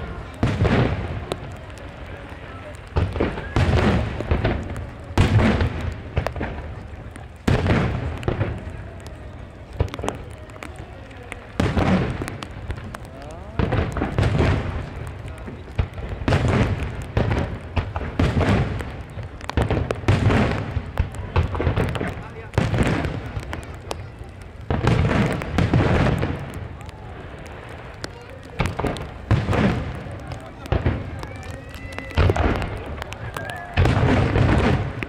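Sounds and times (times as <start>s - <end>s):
firework shells bursting: 0.0s - 35.0s.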